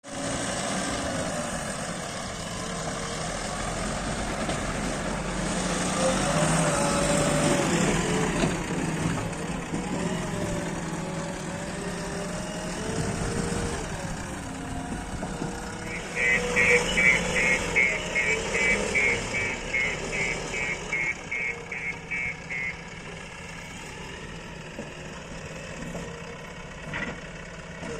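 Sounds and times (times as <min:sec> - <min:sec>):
diesel engines running: 0:00.0 - 0:27.9.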